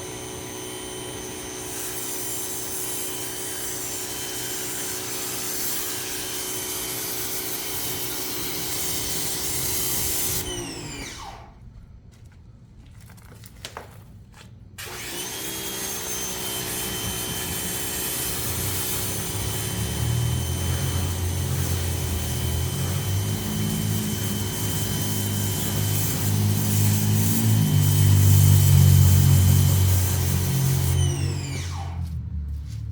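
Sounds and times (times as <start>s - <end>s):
power washer motor whining: 0.0s - 11.6s, 14.8s - 32.4s.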